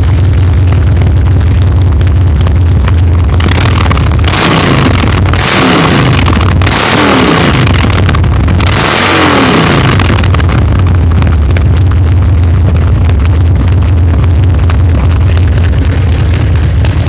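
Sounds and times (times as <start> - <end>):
motorcycle engine running loudly: 0.0 - 17.0.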